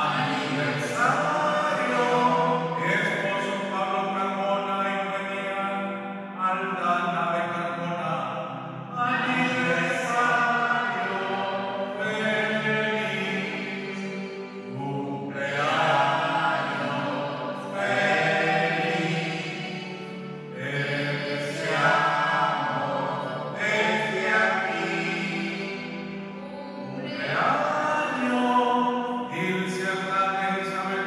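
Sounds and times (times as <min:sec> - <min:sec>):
hymn singing: 0:00.0 - 0:31.0.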